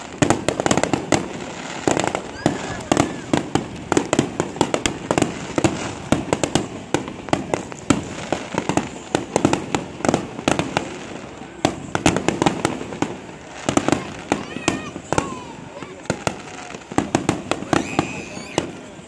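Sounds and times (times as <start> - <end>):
fireworks bursting overhead: 0.0 - 19.0.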